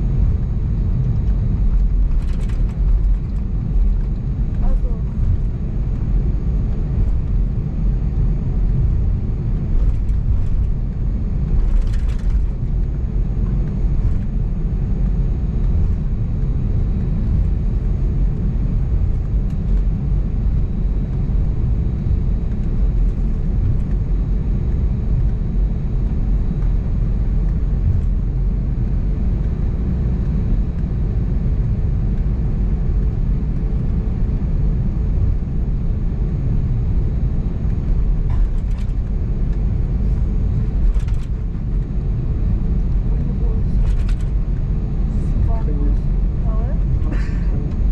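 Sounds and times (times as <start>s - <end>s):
airplane cabin engine drone: 0.0s - 47.9s.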